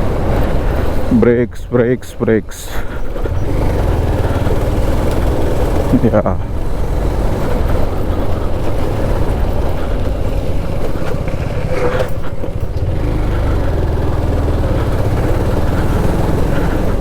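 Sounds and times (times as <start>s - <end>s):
motorcycle running: 0.0s - 17.0s
road and wind noise: 0.0s - 17.0s.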